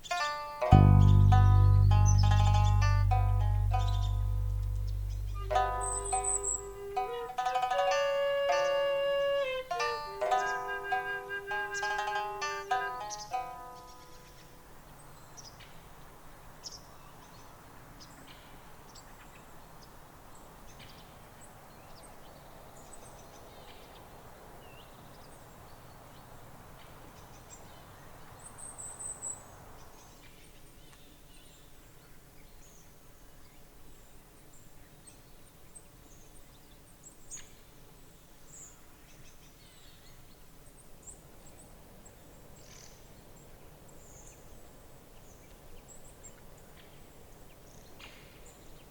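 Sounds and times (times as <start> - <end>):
faint steady background noise: 0.0 - 48.9.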